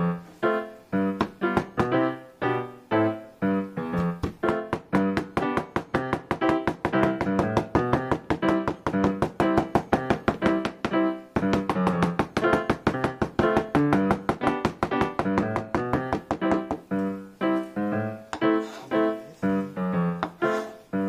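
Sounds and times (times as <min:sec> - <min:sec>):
light piano tune: 0:00.0 - 0:21.0.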